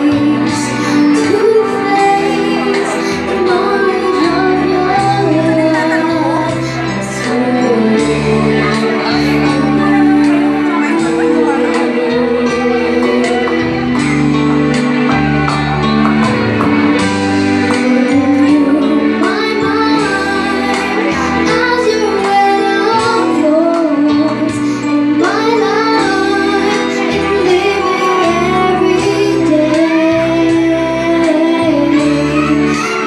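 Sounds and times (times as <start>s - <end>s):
girl singing into a microphone: 0.0s - 14.1s, 17.0s - 33.0s
backing music: 0.0s - 33.0s.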